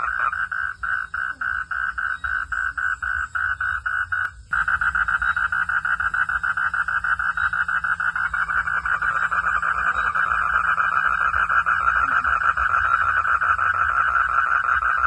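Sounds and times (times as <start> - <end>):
frogs calling in pulsed notes: 0.0 - 15.0.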